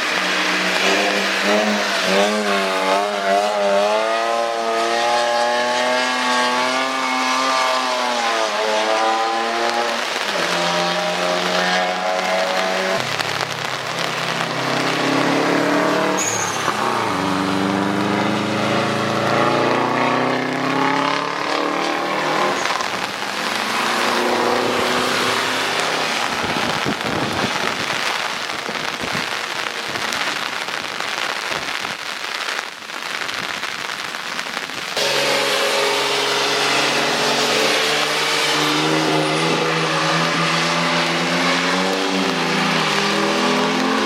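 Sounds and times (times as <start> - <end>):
cars driving past: 0.0 - 28.6, 35.0 - 44.0
hiss of hard rain: 0.0 - 44.0.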